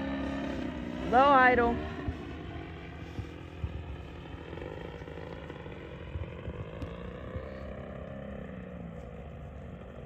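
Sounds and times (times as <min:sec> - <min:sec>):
model plane engine droning: 0:00.0 - 0:10.0.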